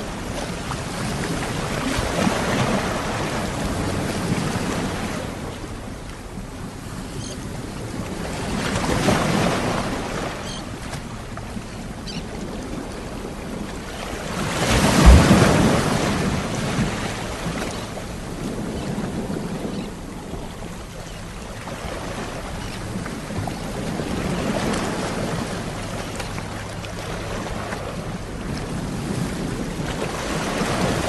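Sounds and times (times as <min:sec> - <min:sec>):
sea waves breaking on shore: 0:00.0 - 0:31.0.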